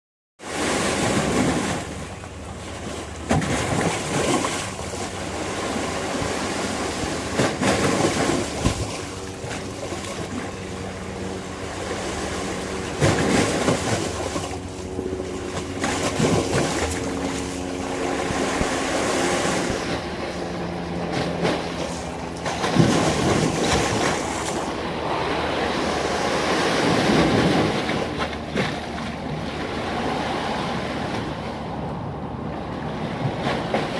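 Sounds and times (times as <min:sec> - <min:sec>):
sea waves breaking: 0:00.4 - 0:33.9.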